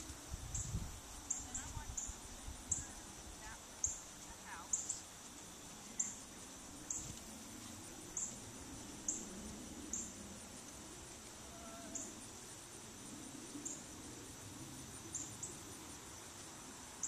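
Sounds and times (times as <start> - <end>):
faint outdoor background noise: 0.0 - 17.0
insect chirping: 0.0 - 17.0.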